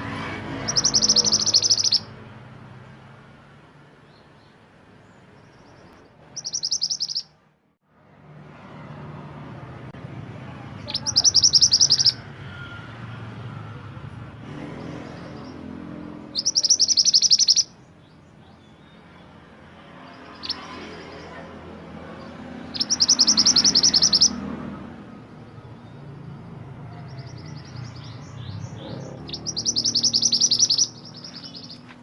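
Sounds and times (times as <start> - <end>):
songbird chirping: 0.0 - 7.5, 10.6 - 12.7, 14.5 - 32.0.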